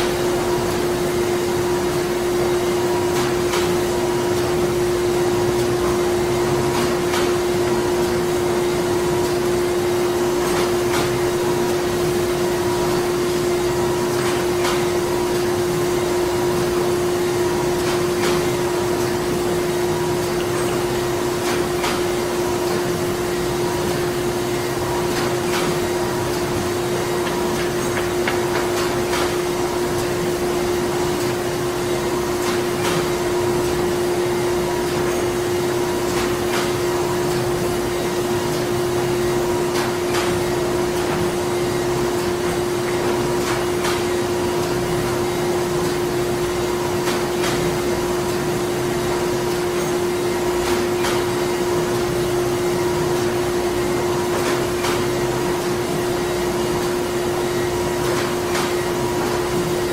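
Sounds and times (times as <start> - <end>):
machinery hum: 0.0 - 59.9.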